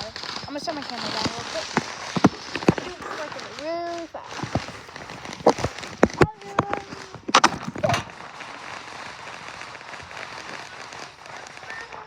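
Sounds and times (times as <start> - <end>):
loud sharp cracks: 0.0 - 12.0.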